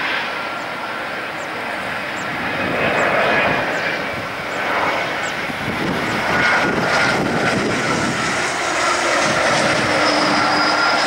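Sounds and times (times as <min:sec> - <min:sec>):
jet engines on approach: 0:00.0 - 0:11.0.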